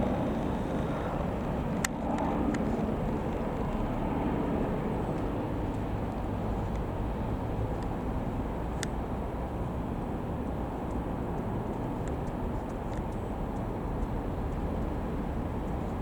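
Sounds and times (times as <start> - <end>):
helicopter low rumble: 0.0 - 16.0.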